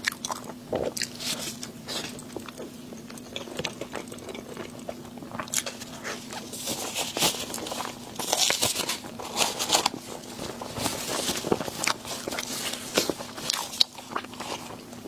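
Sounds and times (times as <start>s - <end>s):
food crunching: 0.0s - 15.0s
food wrapping crinkling: 0.5s - 15.0s.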